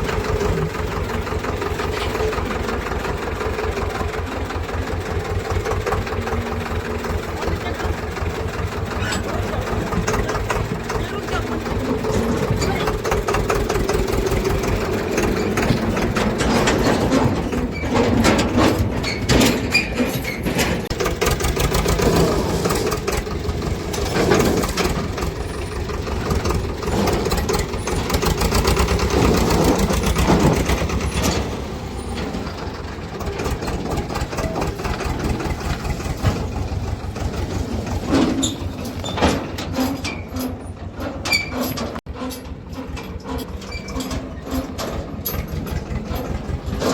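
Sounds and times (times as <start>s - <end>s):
knocks and rattles: 0.0s - 46.9s
tractor diesel engine chugging: 0.0s - 46.9s.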